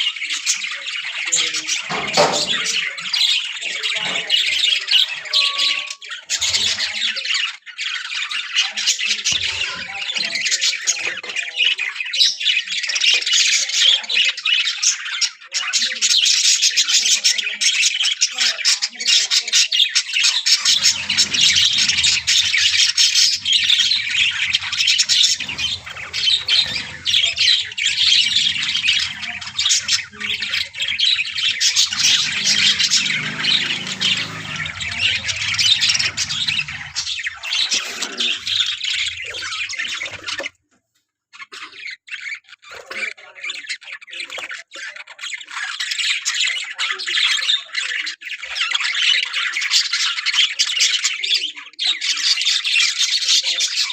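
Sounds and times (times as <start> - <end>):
budgerigars chattering and squawking: 0.0 - 40.6, 41.4 - 53.9.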